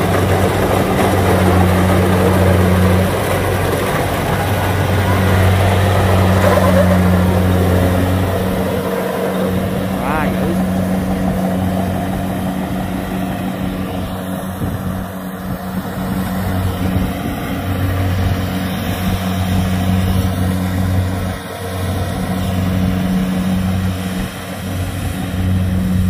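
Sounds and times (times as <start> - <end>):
combine harvester engines humming: 0.0 - 26.0.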